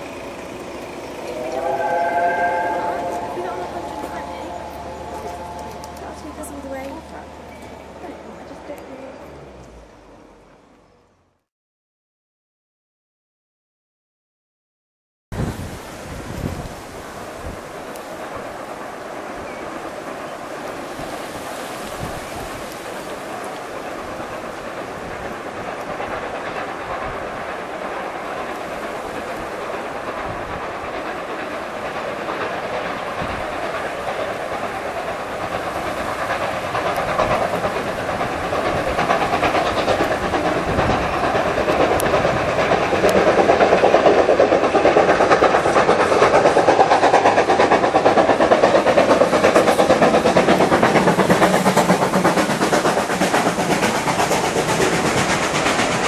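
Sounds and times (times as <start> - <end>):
steam locomotive passing: 0.0 - 11.4, 15.4 - 56.0.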